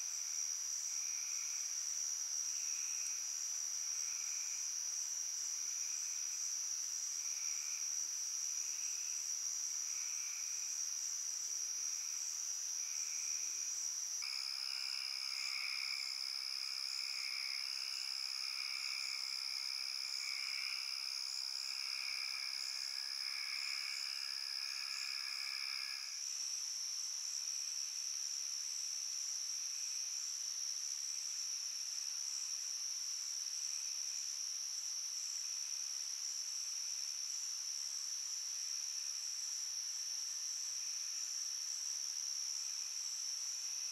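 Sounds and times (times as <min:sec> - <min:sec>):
high-pitched cricket trill: 0:00.0 - 0:43.9
lower insect call: 0:00.0 - 0:43.9.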